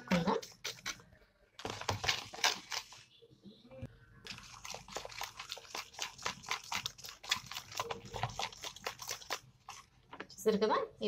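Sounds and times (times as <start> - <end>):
spoon stirring batter in bowl: 0.0 - 3.1, 4.2 - 10.3.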